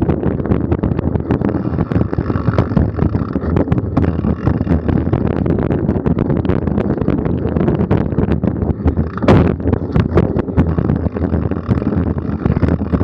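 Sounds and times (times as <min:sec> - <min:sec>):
bike rattling over bumpy trail: 0:00.0 - 0:13.0
wind buffeting microphone: 0:00.0 - 0:13.0.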